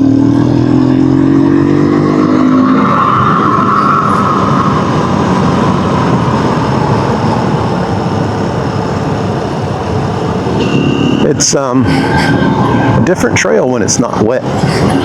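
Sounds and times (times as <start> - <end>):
rushing riding noise: 0.0 - 15.0.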